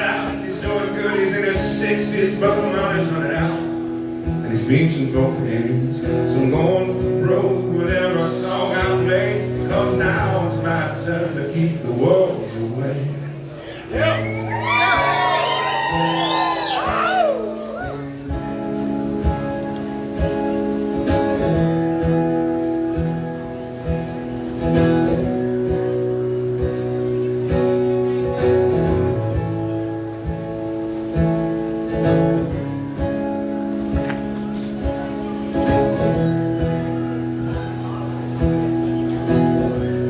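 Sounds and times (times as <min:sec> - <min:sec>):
strummed acoustic guitar: 0:00.0 - 0:15.2, 0:15.9 - 0:40.0.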